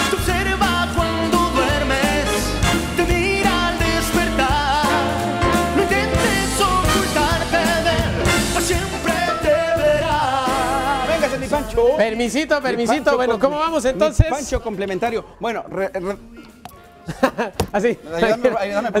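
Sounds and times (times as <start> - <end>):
song with singing and beat: 0.0 - 17.0.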